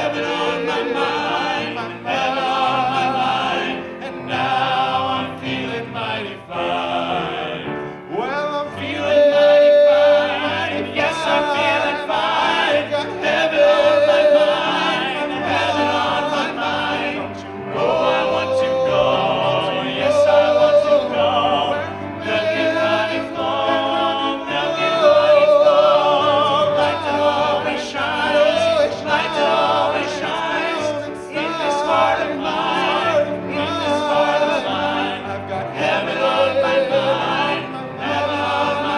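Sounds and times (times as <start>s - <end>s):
gospel group singing in harmony: 0.0s - 38.9s.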